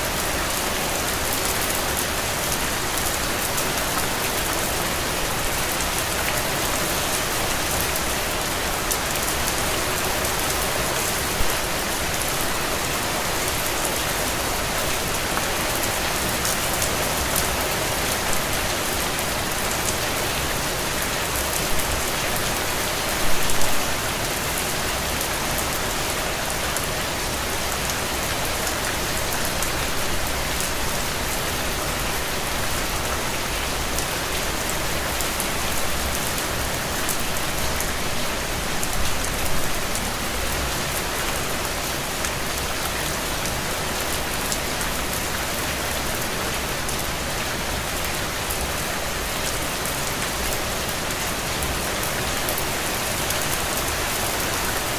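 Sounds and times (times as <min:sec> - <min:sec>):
rain splashes: 0:00.0 - 0:54.9.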